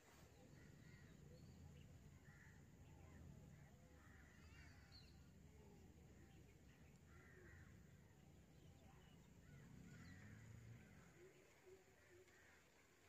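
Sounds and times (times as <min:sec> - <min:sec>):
faint bird calls: 0:00.2 - 0:12.9.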